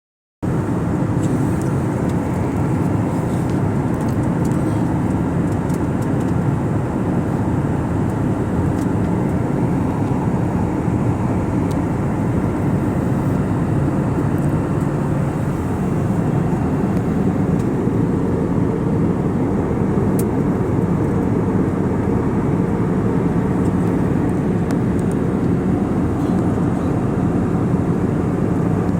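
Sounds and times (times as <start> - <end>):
airliner engine rumble: 0.4 - 28.9.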